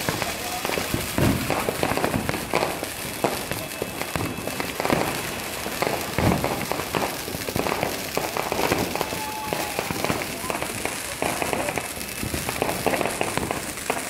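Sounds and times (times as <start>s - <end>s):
firecrackers banging and crackling: 0.0s - 14.0s
heavy firework booms: 0.0s - 14.0s.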